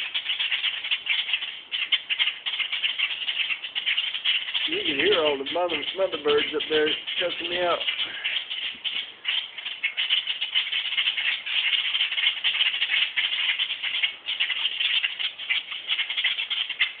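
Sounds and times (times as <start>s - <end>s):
birds chattering alarm calls: 0.0s - 17.0s.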